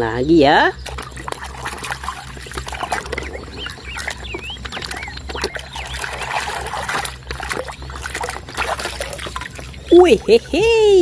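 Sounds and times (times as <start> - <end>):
water trickling and splashing: 0.0 - 11.0
high wavering chirps: 0.4 - 11.0.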